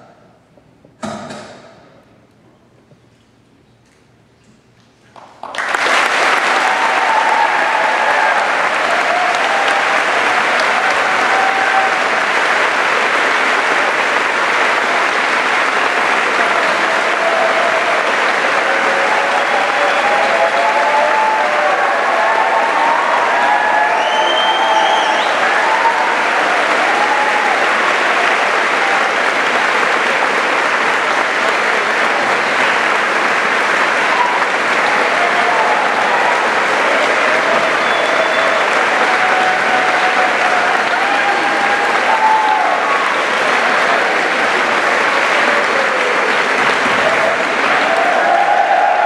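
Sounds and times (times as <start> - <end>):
crowd applauding: 5.0 - 49.0.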